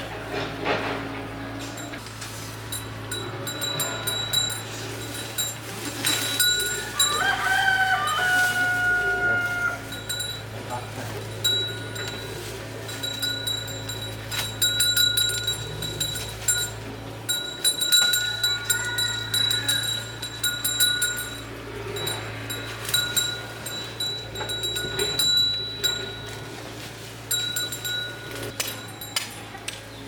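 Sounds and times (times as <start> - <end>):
steady low hum: 0.0 - 7.1, 9.7 - 29.7.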